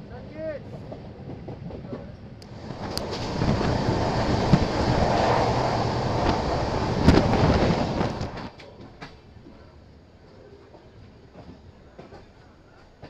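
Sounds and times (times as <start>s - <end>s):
passenger train rumbling on track: 0.0s - 13.0s.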